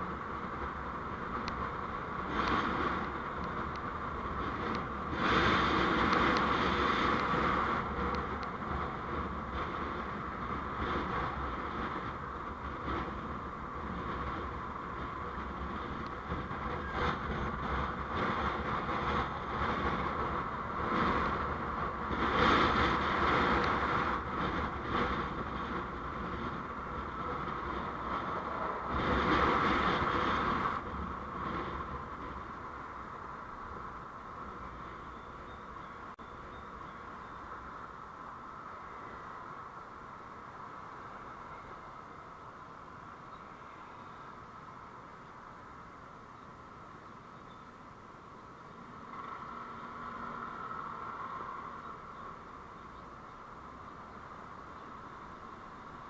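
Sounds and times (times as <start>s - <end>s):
vehicle road noise: 0.0s - 56.0s.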